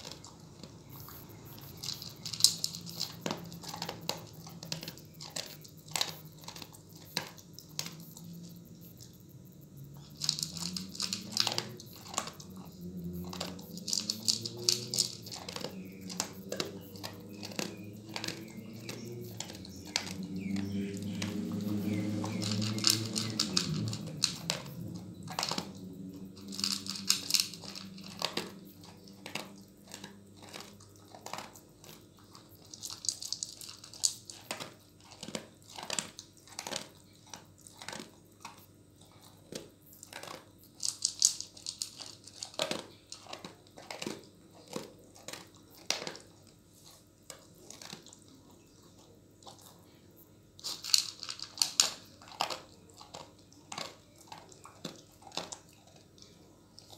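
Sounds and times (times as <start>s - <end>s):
dog crunching dry kibble: 0.0s - 56.9s.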